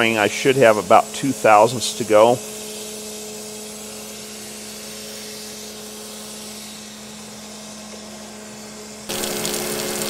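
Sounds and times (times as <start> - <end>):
coolant hissing over grinding wheel: 0.0 - 10.0
grinding machine humming: 0.0 - 10.0.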